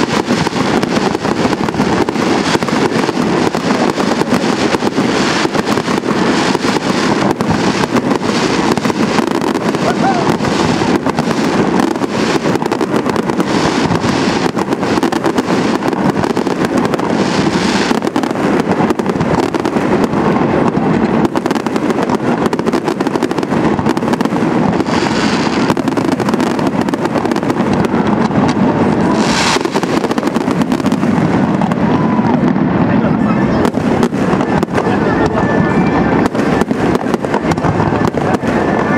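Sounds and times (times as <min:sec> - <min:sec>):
firework bangs: 0:00.0 - 0:38.9
firework crackling: 0:00.0 - 0:38.9.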